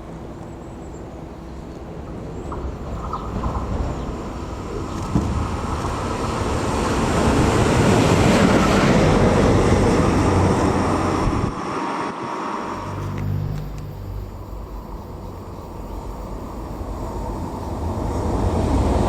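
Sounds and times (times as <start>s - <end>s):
train passing: 0.0s - 19.0s.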